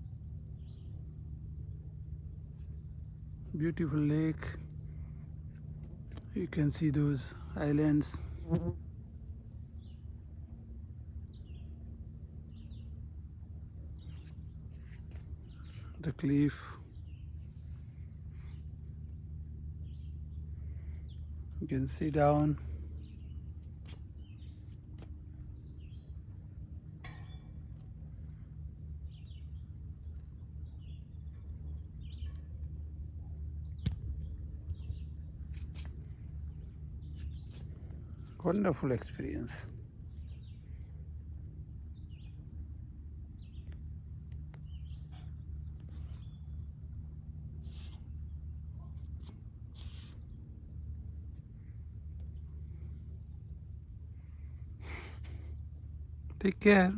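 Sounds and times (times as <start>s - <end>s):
low outdoor rumble: 0.0s - 56.9s
small birds chirping: 0.0s - 56.9s.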